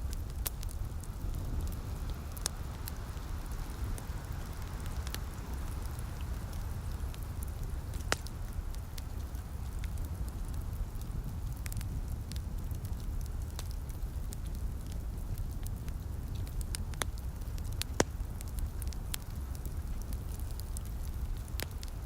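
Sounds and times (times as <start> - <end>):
light rain hiss: 0.0 - 22.0
wood fire crackling and popping: 0.0 - 22.0.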